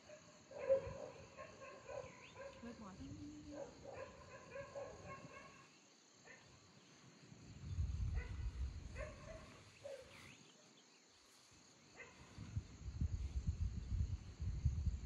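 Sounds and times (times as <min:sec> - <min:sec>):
crickets and insects chirping: 0:00.0 - 0:15.0.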